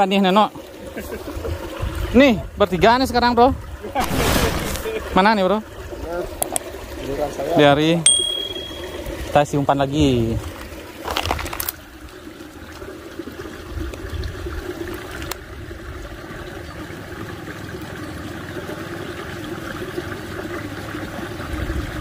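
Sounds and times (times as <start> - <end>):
water trickling in ditch: 0.0 - 22.0.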